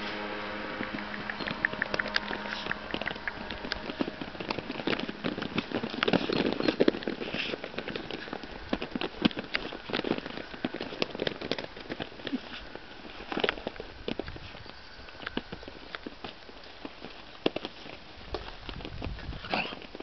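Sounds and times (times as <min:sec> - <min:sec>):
low hum: 0:00.0 - 0:16.6
puppy paws pattering on turf: 0:00.0 - 0:20.0.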